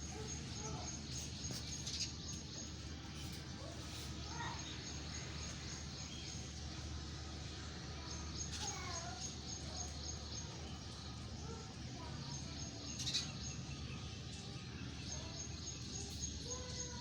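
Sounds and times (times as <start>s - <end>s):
birds chirping: 0.0s - 7.2s, 8.0s - 17.0s.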